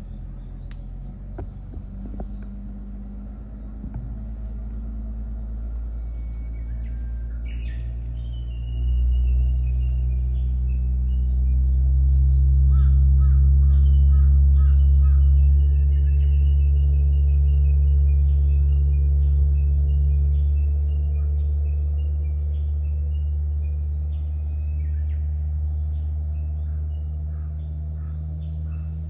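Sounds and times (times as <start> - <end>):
loud low hum: 0.0 - 29.0
small birds chirping: 0.0 - 29.0.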